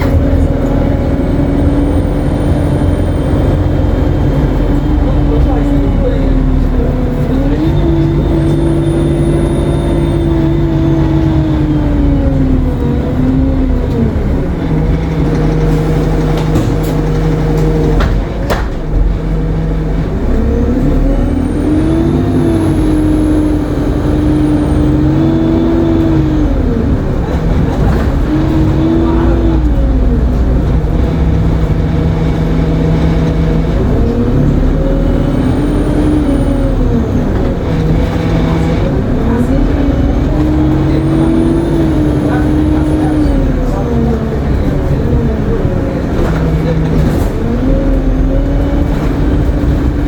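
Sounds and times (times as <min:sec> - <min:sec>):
turbocharger whine: 0:00.0 - 0:18.0, 0:19.0 - 0:50.0
bus engine revving: 0:00.0 - 0:50.0.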